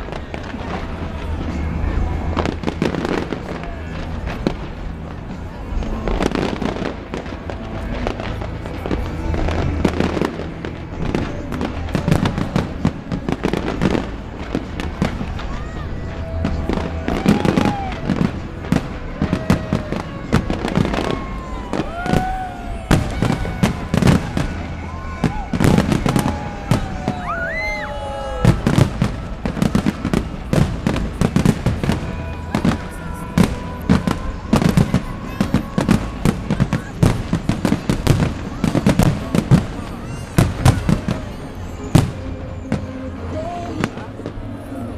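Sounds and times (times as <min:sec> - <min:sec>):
fireworks bursting and crackling: 0:00.0 - 0:44.9
music playing: 0:00.0 - 0:44.9.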